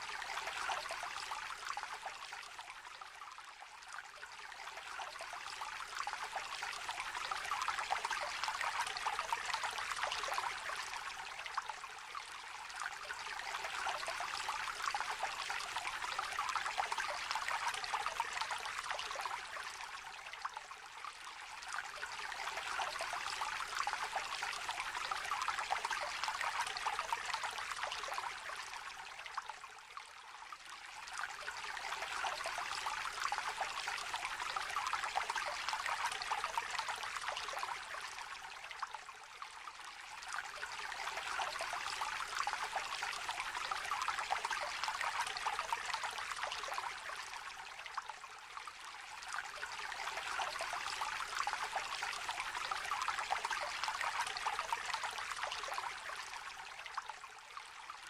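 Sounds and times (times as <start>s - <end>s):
river trickling and babbling: 0.0s - 58.0s.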